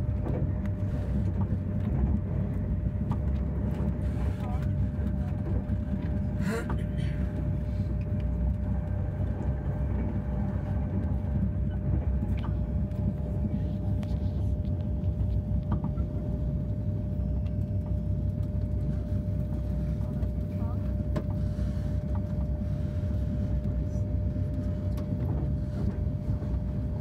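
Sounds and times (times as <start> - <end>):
faint constant hum: 0.0 - 27.0
train rumble inside carriage: 0.0 - 27.0.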